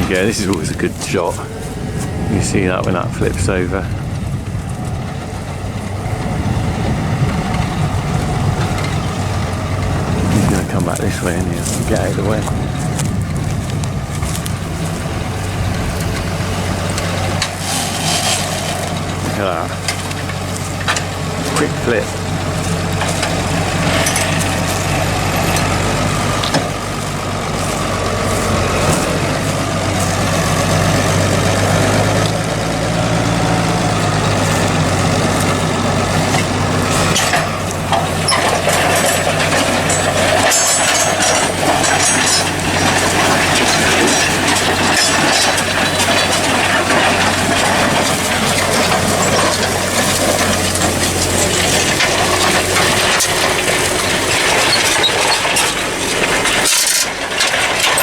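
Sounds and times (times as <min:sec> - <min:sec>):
tractor engine under load: 0:00.0 - 0:58.0
clicks and rattles: 0:07.4 - 0:58.0.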